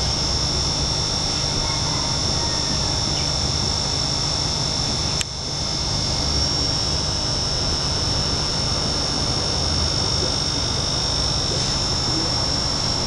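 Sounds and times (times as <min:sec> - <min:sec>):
aquarium air pumps humming: 0:00.0 - 0:13.0.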